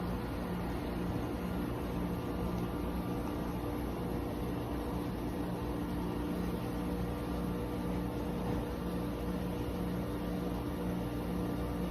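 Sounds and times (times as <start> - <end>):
air conditioner fan hum: 0.0 - 11.9.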